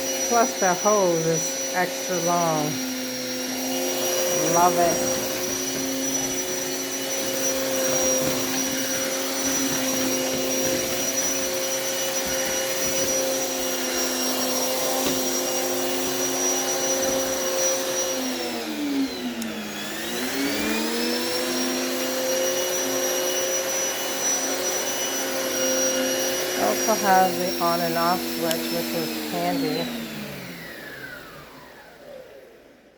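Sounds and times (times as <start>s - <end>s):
central vacuum whine and hiss: 0.0s - 32.5s.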